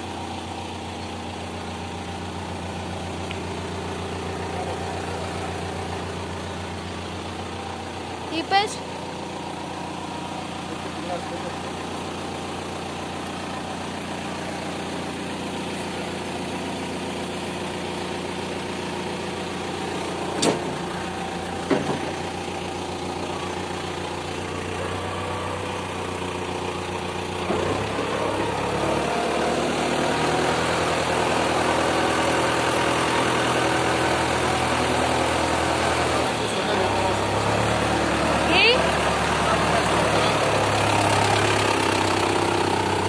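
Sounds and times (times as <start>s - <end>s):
tractor engine idling: 0.0s - 43.0s.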